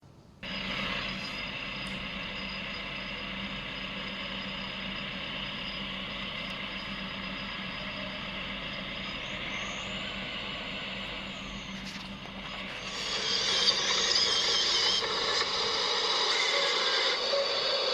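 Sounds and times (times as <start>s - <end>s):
mechanical running noise with hum: 0.4s - 17.9s.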